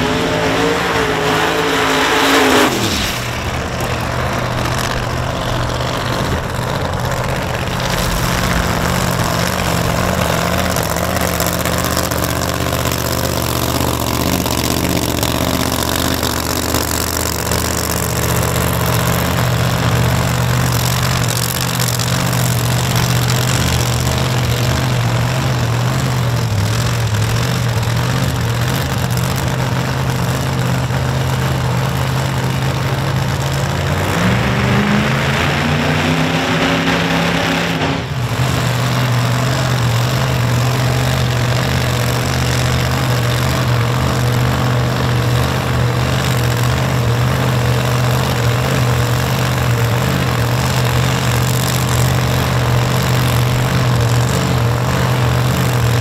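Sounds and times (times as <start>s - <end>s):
engine revving: 0.0s - 56.0s
race car engines idling: 2.7s - 56.0s.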